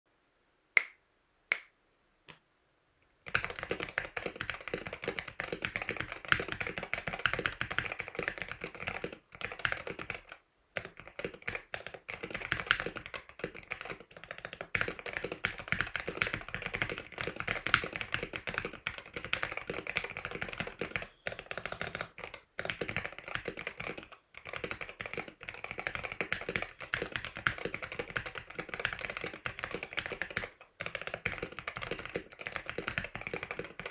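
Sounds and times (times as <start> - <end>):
keyboard typing: 3.2 - 33.9.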